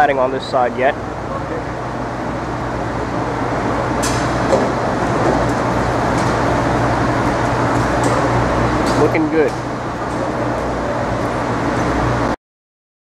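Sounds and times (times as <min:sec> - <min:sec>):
city traffic hum: 0:00.0 - 0:12.4.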